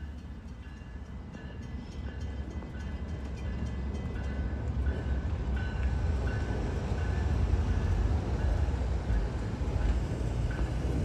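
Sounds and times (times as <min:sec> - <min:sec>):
diesel locomotives rumbling: 0:00.0 - 0:11.0
rail noise: 0:00.0 - 0:11.0.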